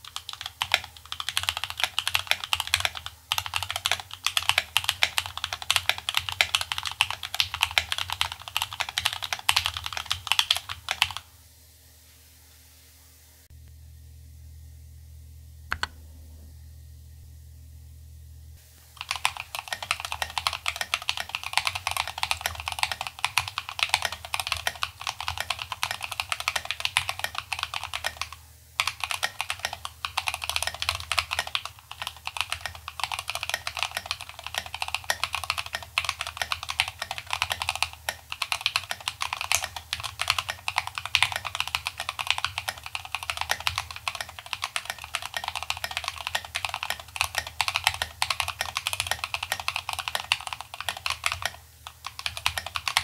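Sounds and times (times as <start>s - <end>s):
typing on mechanical keyboard: 0.0s - 11.2s, 19.0s - 53.0s.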